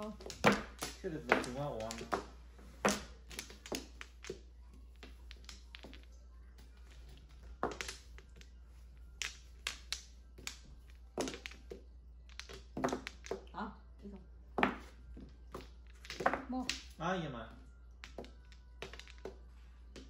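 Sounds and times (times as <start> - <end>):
mahjong tiles clacking: 0.0 - 13.5, 14.6 - 17.0, 18.0 - 20.0.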